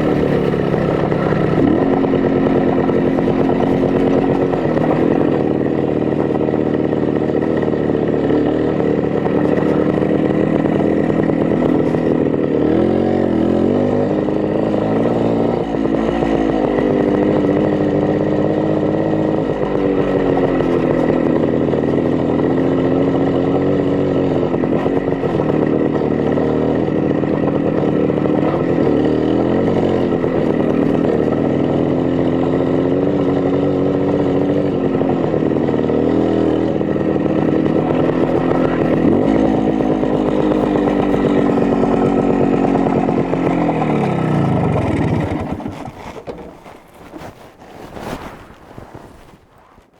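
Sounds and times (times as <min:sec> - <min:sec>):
two-stroke motorcycle engine revving: 0:00.0 - 0:47.7.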